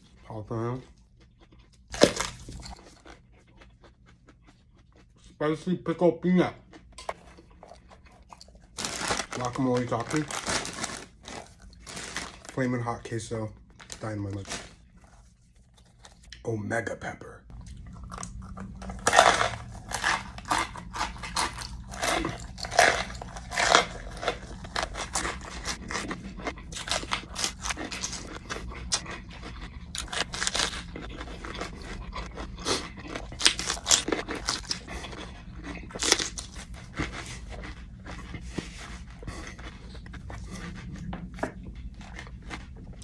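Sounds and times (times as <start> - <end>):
crunchy chewing of pepper: 0.0 - 16.4, 17.5 - 43.0.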